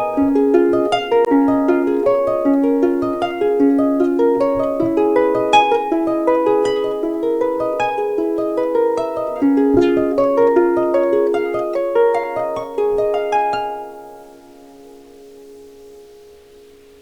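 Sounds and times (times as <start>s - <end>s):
harp plucked notes: 0.0s - 17.0s.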